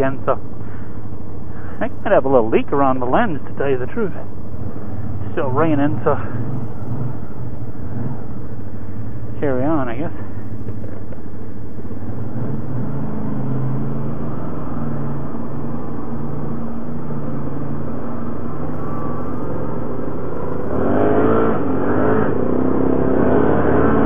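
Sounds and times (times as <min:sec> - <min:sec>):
atv engine running: 0:03.8 - 0:24.0.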